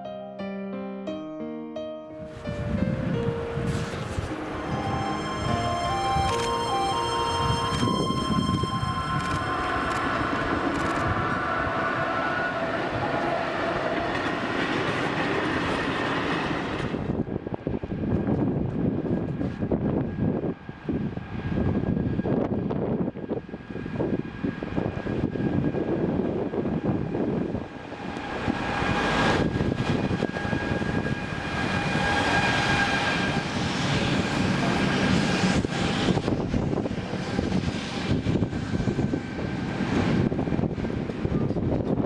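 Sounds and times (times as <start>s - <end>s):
locomotive high whine: 2.2s - 17.8s, 21.8s - 42.0s
freight train rumble: 2.2s - 42.0s.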